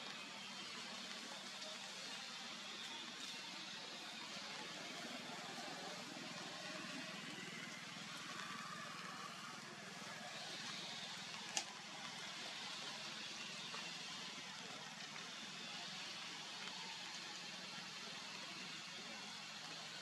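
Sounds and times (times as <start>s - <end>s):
faint steady background noise: 0.0s - 20.0s.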